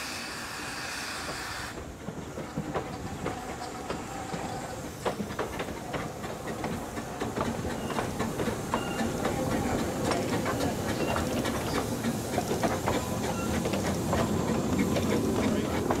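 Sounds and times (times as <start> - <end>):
steam hissing: 0.0 - 16.0
train low rumble: 0.0 - 16.0
train wheels clicking over rail joints: 0.0 - 16.0.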